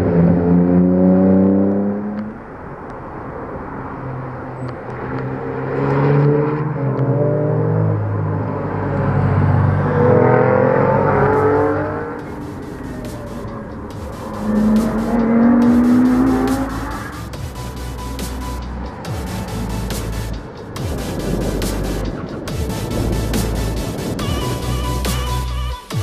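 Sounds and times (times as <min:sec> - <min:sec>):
car engine accelerating: 0:00.0 - 0:25.7.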